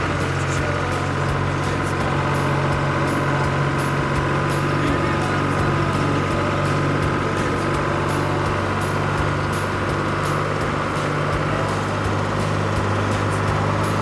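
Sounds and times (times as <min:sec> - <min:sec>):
tractor diesel engines driving past: 0:00.0 - 0:14.0.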